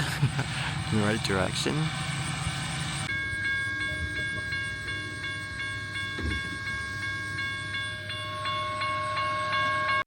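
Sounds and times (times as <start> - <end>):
railroad crossing bell ringing: 0.0 - 10.0.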